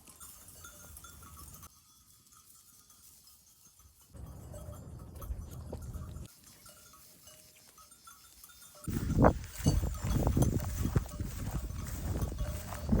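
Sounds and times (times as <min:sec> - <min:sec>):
livestock bells clinking: 0:00.0 - 0:13.0.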